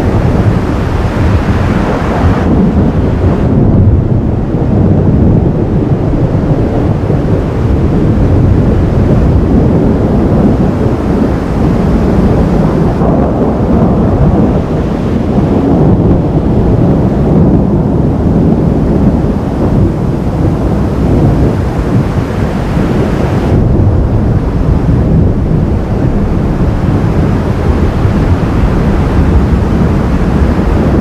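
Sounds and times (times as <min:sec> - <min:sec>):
thunder rumbling: 0:00.0 - 0:31.0
wind buffeting microphone: 0:00.0 - 0:31.0.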